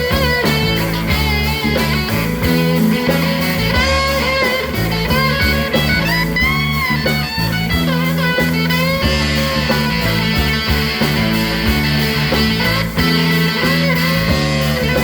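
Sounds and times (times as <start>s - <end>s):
bass guitar: 0.0s - 15.0s
drums: 0.0s - 15.0s
electric guitar lead with bent notes: 0.0s - 15.0s.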